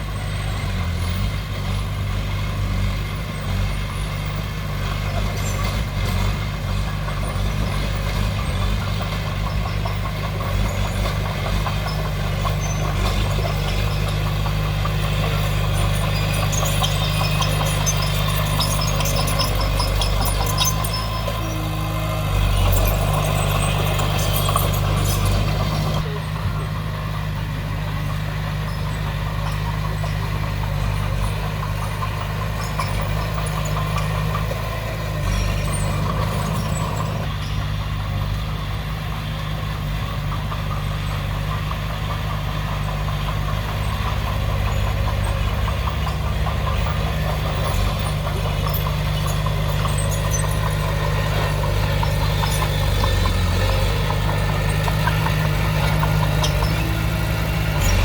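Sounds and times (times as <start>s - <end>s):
heavy diesel machinery engine drone: 0.0s - 58.0s.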